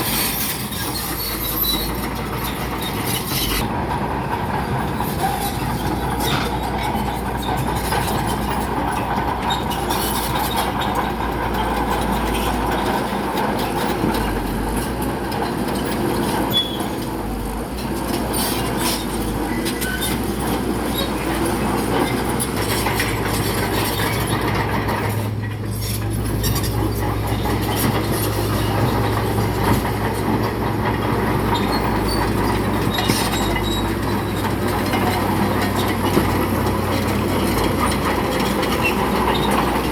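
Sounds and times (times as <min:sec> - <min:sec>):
diesel engine droning: 0:00.0 - 0:39.9
steel tracks clattering on rock: 0:00.0 - 0:39.9.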